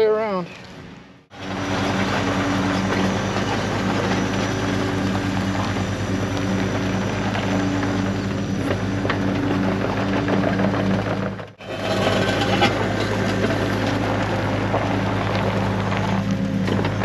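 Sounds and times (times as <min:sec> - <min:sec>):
excavator diesel engine running: 0:00.7 - 0:17.0
blade pushing dirt and gravel: 0:01.3 - 0:17.0.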